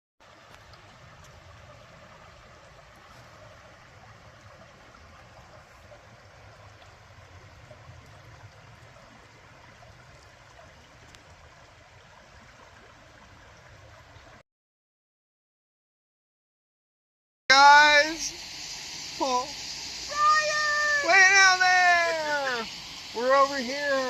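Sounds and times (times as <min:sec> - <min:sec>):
stream running water: 0:00.2 - 0:14.4, 0:17.5 - 0:24.0.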